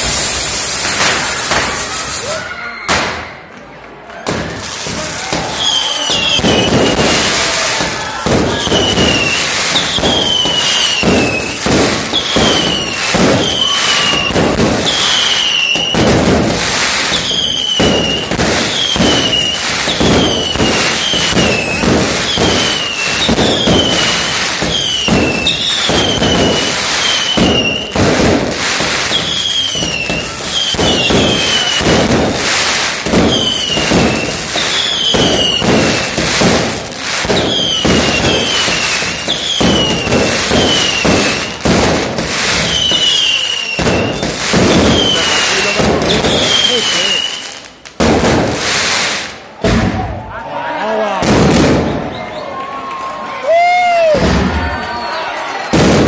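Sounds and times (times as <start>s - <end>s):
firework whistles falling in pitch: 0.0s - 3.5s, 5.3s - 47.7s, 51.6s - 52.6s, 53.5s - 56.0s
fireworks banging and crackling: 0.0s - 50.4s, 51.0s - 56.0s.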